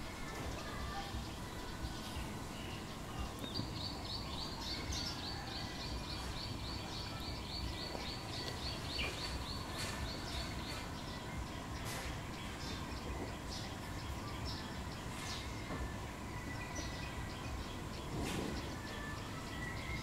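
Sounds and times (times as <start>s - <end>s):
bird chirps: 0.6s - 20.0s.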